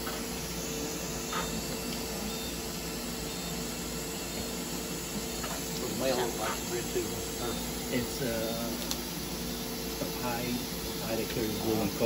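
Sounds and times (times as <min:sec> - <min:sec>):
surgical equipment hum: 0:00.0 - 0:12.0.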